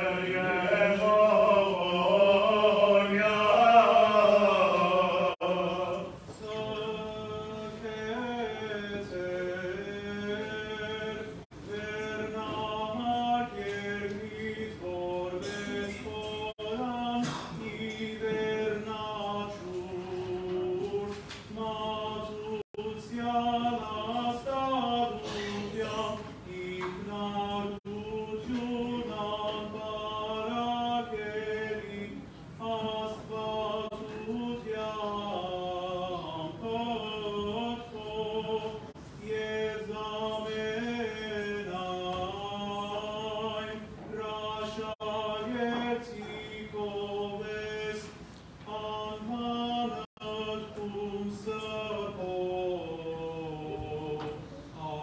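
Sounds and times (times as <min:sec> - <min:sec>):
male voices chanting a hymn: 0:00.0 - 0:55.0.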